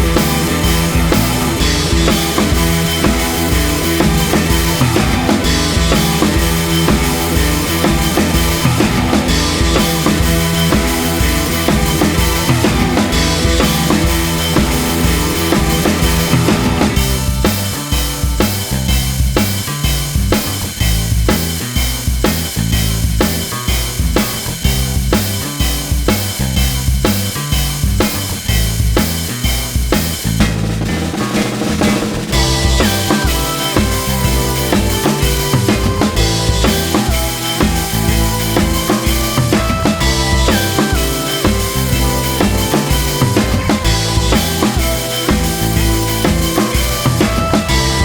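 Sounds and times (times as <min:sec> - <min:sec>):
drum kit beat: 0:00.0 - 0:48.0
stepping bass line: 0:00.0 - 0:48.0.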